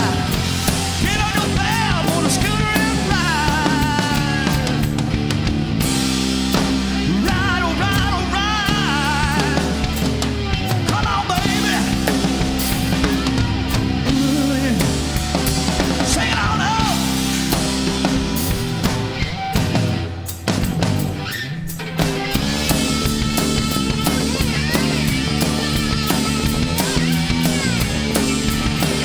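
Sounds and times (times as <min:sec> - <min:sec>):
drum kit and bass beat: 0:00.0 - 0:29.0
gliding lead guitar line: 0:00.0 - 0:29.0.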